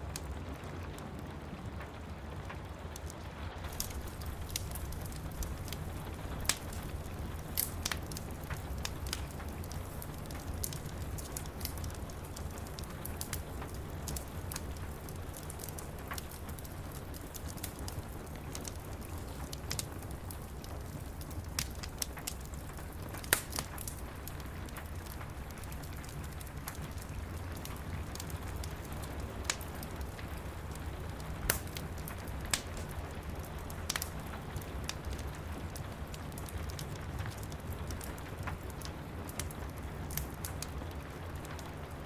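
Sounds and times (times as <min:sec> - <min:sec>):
steady rain: 0:00.0 - 0:42.0
wood fire crackling and popping: 0:00.0 - 0:42.0.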